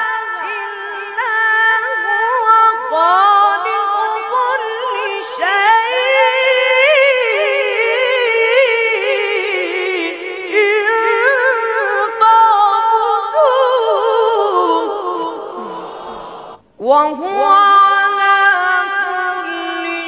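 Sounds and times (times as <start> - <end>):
boy chanting melodic recitation: 0.0 - 20.0.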